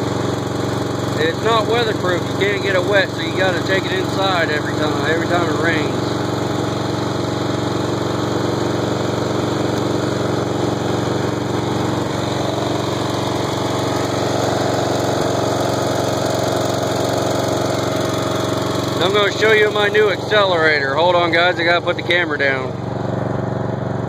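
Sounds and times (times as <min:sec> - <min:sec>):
riding mower engine running: 0:00.0 - 0:24.0.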